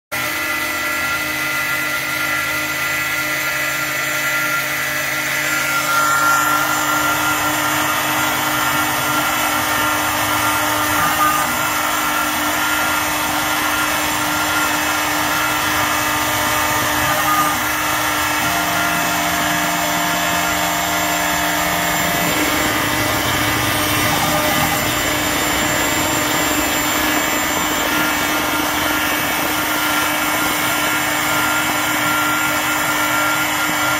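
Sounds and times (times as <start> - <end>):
router spindle whining: 0.1 - 33.9.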